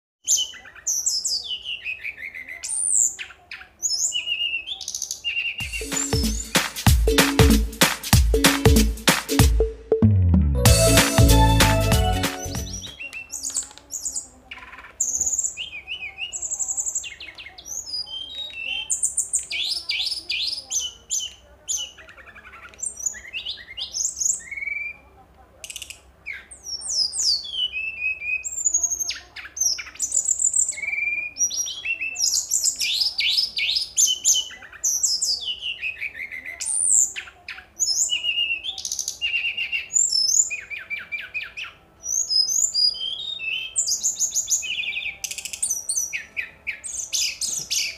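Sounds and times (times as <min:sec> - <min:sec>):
bird singing: 0:00.2 - 0:06.6, 0:10.6 - 0:47.9.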